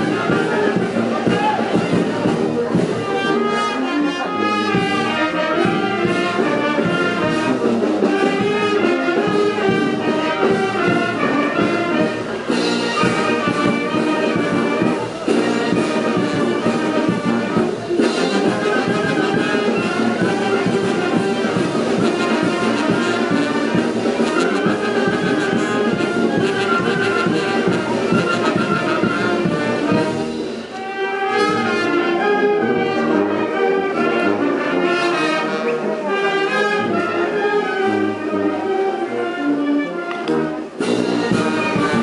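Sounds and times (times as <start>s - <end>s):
brass band playing dance music: 0.0s - 42.0s.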